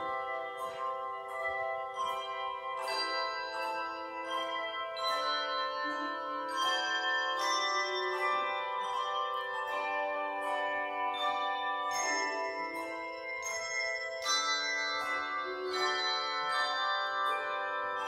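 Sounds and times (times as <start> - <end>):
handbell choir playing a hymn: 0.0 - 18.0.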